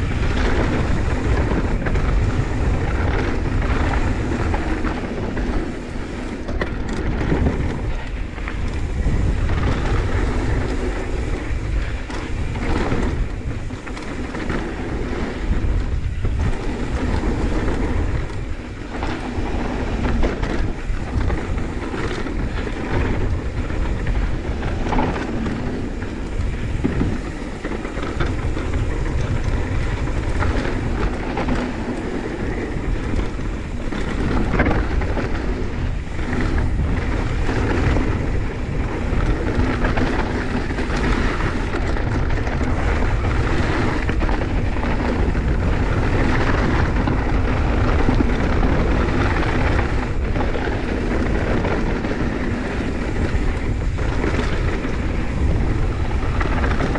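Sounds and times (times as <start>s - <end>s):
bike rattling: 0.0s - 56.9s
wind rushing on microphone: 0.0s - 56.9s.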